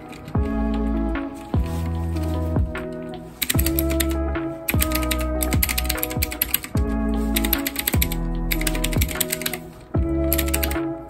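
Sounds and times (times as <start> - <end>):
keyboard keys clicking: 0.0 - 11.0
music with heavy bass: 0.1 - 11.0.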